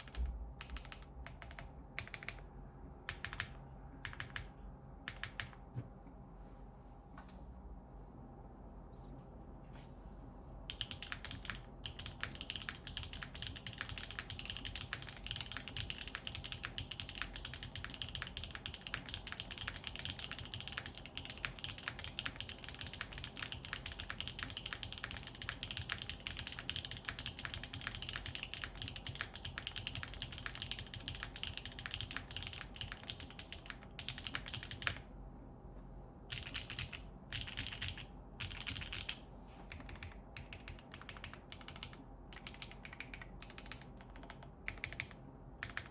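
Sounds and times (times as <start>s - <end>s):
mechanical keyboard typing: 0.0s - 4.5s, 5.1s - 5.6s, 10.7s - 35.1s, 36.3s - 45.9s.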